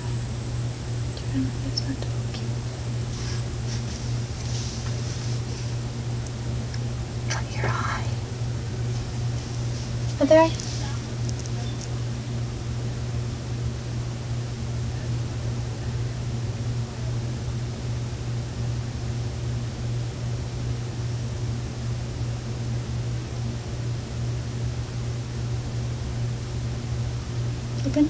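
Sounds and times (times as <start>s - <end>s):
faint high whine: 0.0s - 28.0s
steady low hum with hiss: 0.0s - 28.0s.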